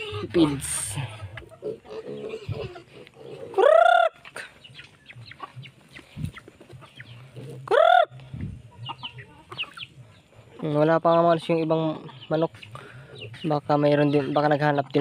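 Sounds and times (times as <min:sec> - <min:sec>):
chickens clucking: 0:00.0 - 0:15.0
loud rising and falling chicken calls: 0:00.0 - 0:15.0.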